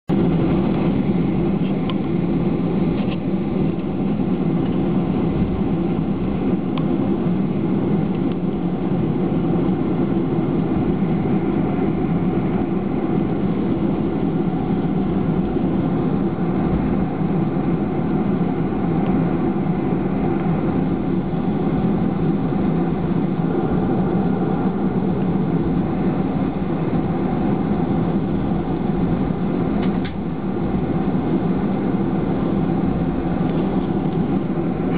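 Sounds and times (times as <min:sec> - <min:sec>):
airplane cabin engine drone: 0:00.1 - 0:34.9.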